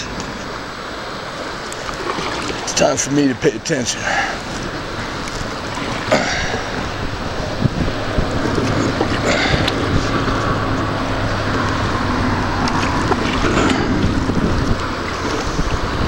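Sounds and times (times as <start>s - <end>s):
canoe paddling: 0.0s - 16.0s
river water flowing: 0.0s - 16.0s
wind buffeting microphone: 1.4s - 16.0s.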